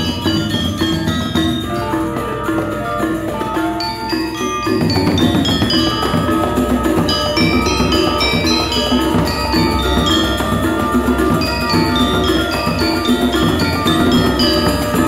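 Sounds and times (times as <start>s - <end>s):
metallophones ringing in fast runs: 0.0s - 15.0s.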